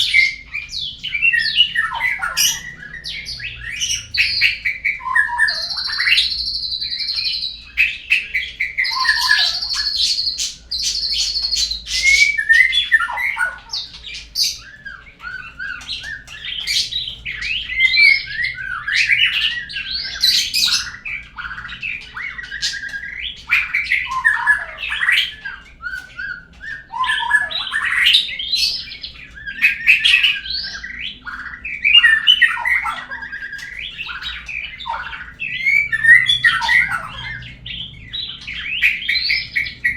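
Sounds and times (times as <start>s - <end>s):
bird song whistled phrases: 0.0s - 39.9s.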